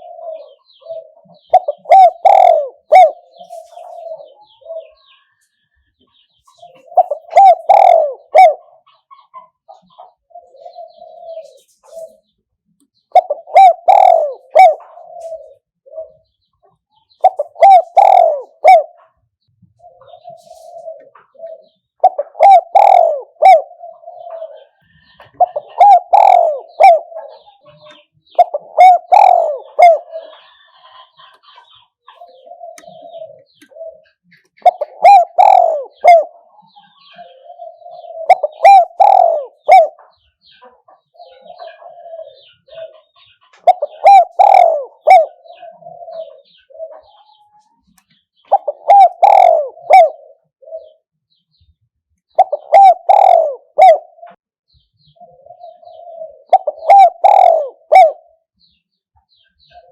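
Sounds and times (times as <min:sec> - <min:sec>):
dove cooing: 0:00.0 - 0:05.4, 0:06.5 - 0:12.3, 0:13.0 - 0:51.1, 0:52.3 - 0:54.4, 0:55.1 - 0:58.4, 0:59.3 - 0:59.9.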